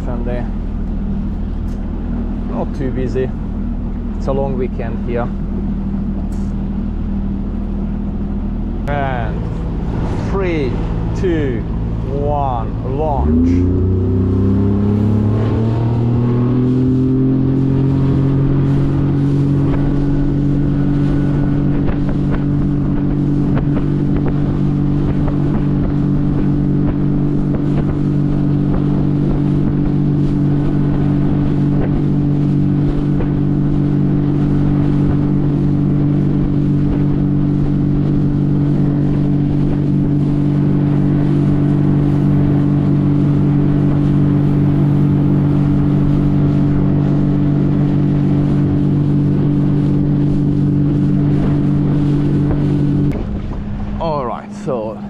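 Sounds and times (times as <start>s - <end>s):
outboard motor accelerating: 0.0s - 55.0s.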